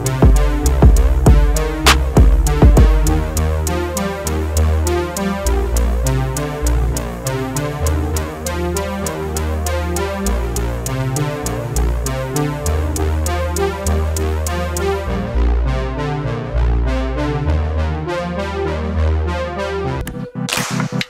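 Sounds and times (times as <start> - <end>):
electronic music with beat: 0.0 - 21.0.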